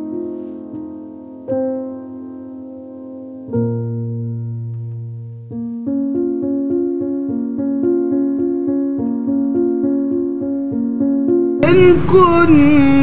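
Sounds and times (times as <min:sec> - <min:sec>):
electronic keyboard chords and notes: 0:00.0 - 0:13.0.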